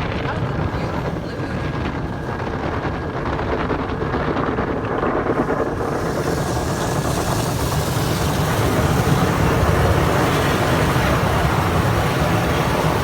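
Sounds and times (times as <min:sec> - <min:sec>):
car wash machinery rumbling: 0:00.0 - 0:13.0.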